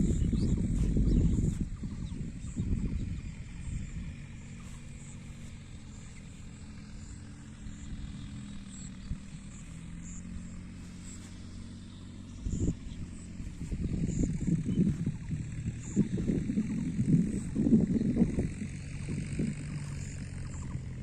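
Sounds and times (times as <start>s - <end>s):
low engine drone: 0.0s - 21.0s.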